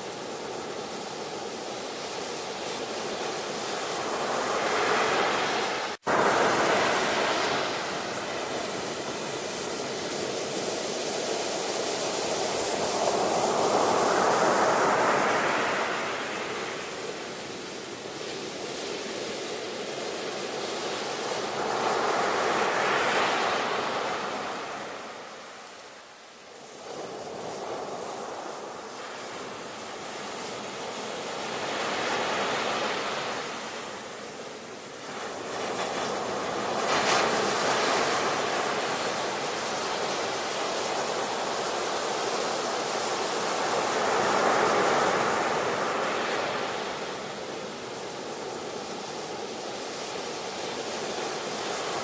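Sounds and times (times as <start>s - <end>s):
ocean waves breaking: 0.0s - 26.0s, 26.6s - 52.0s.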